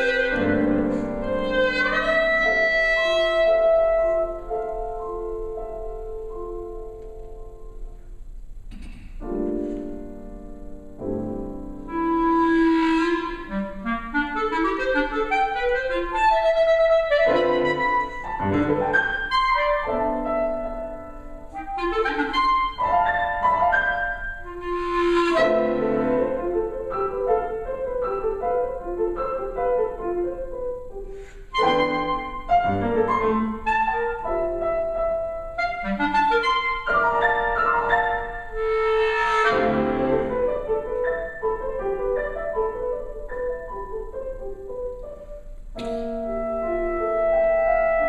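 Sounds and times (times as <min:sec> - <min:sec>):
clarinet playing runs: 0:00.0 - 0:07.3, 0:11.8 - 0:48.0
piano chords: 0:00.0 - 0:48.0.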